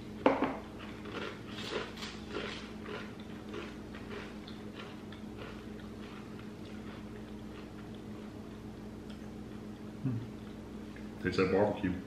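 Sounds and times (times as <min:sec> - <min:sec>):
chewing crunchy crisps: 0:00.7 - 0:10.6.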